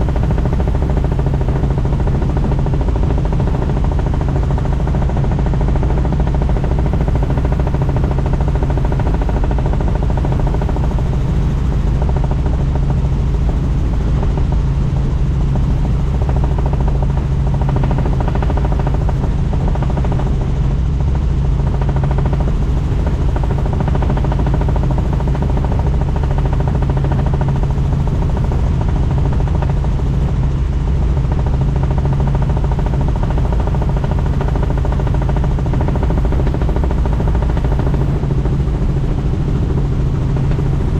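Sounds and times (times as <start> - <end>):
helicopter rotor drone: 0.0 - 40.9.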